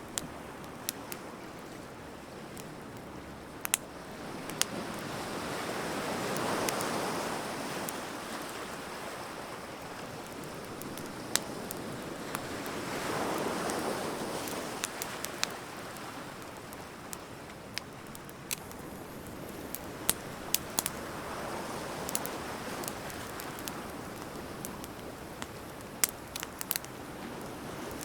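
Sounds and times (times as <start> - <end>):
bonfire crackling and popping: 0.0 - 28.0
soft waves: 0.0 - 28.0.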